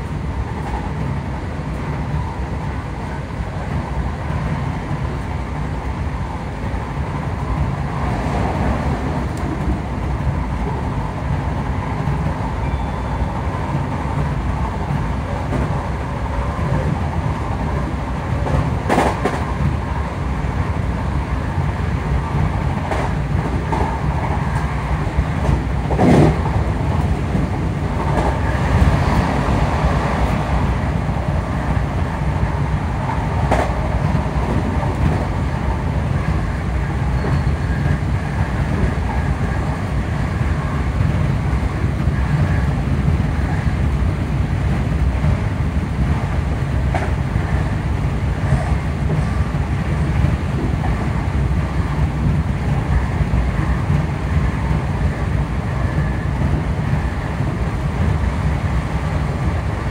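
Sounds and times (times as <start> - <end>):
train running gear rumble: 0.0 - 59.9.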